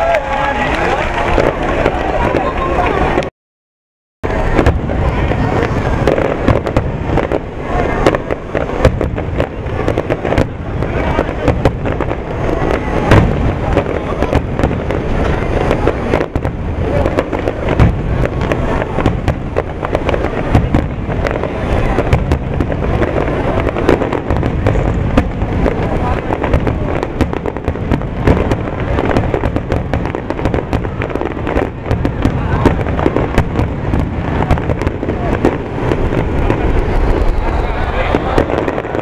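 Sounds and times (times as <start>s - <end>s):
fireworks booming and crackling: 0.0s - 3.3s, 4.2s - 39.0s.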